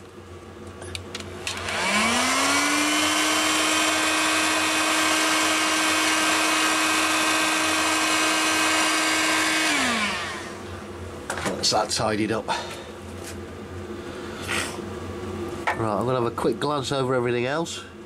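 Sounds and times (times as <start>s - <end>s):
heat gun fan whine: 0.0s - 18.0s.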